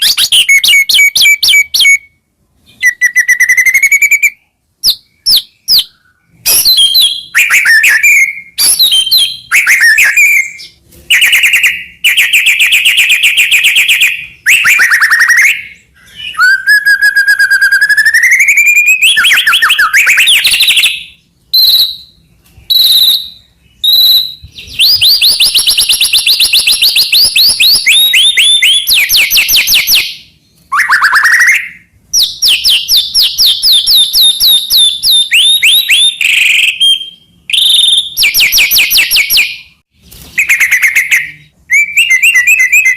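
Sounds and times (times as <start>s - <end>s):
bird singing trills and whistles: 0.0s - 42.9s.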